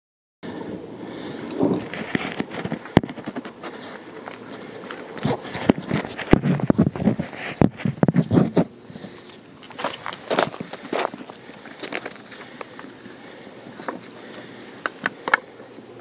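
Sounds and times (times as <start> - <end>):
rustling: 1.1 - 16.0.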